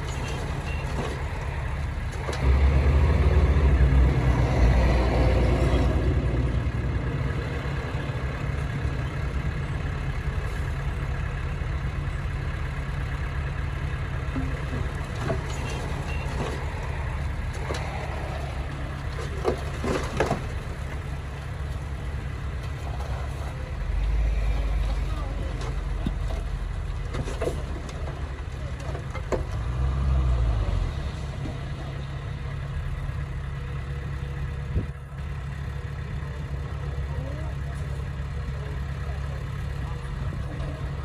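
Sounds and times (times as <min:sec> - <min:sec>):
diesel machinery engine running: 0:00.0 - 0:41.0.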